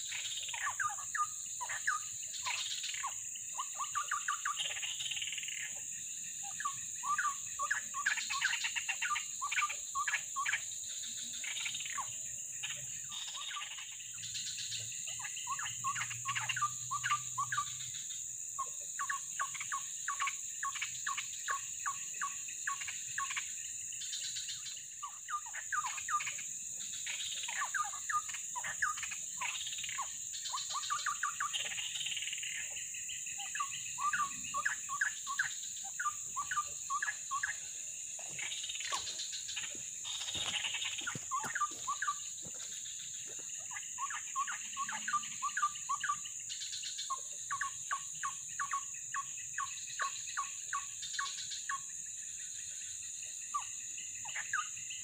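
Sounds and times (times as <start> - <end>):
bird chattering song: 0.0 - 5.8, 6.4 - 51.8, 53.5 - 55.0
high insect drone: 0.0 - 55.0.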